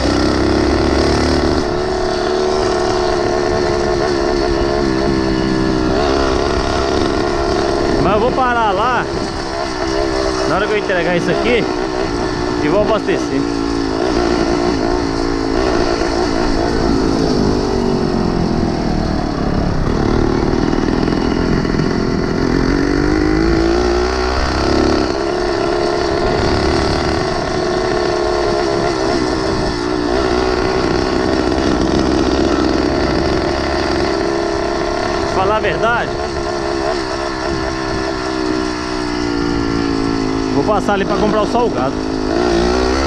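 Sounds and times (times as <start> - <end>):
motorized bicycle engine running: 0.0 - 43.0.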